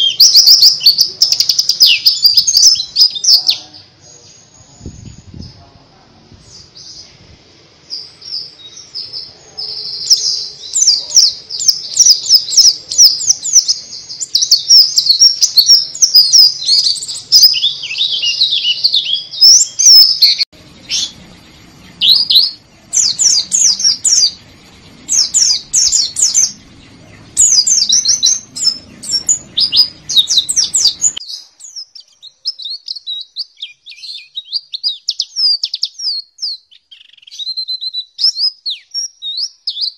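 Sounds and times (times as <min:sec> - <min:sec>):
bird twittering and trilling: 0:00.0 - 0:05.7, 0:06.3 - 0:39.9.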